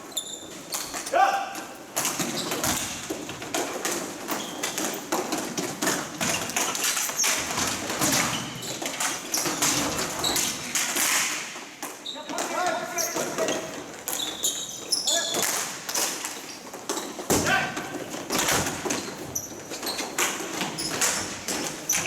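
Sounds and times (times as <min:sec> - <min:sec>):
hockey sticks clattering on ball: 0:00.1 - 0:22.0.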